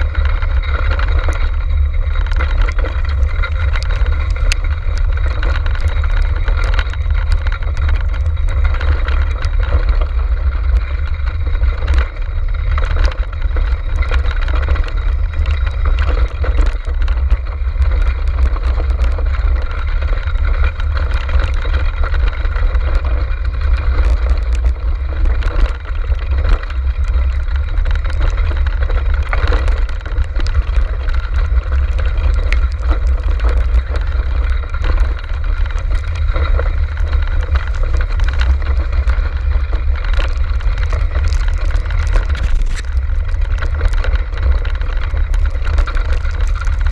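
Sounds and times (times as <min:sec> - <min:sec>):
grit ticking on camera: 0:00.0 - 0:46.9
wheels rolling on dirt trail: 0:00.0 - 0:46.9
wind buffeting microphone: 0:00.0 - 0:46.9.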